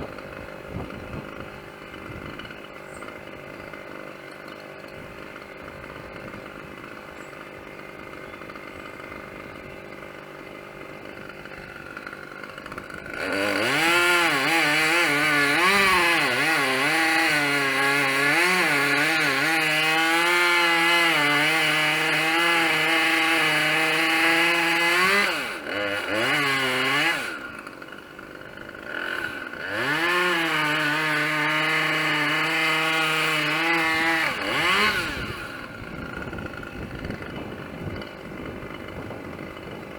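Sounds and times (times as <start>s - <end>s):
chainsaw idling and cutting wood: 0.0s - 39.9s.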